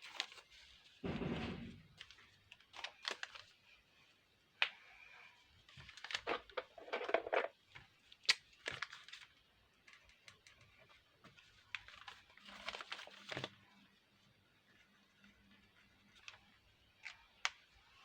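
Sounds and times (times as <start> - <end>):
craft material crinkling: 1.8 - 3.8, 5.5 - 18.0.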